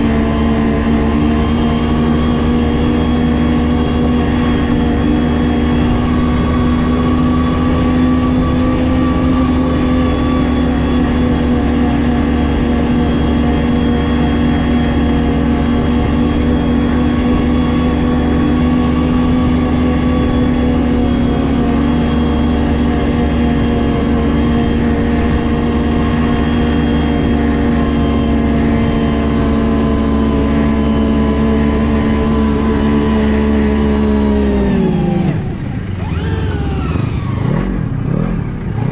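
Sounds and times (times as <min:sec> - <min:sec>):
snowmobile engine at high speed: 0:00.0 - 0:38.9.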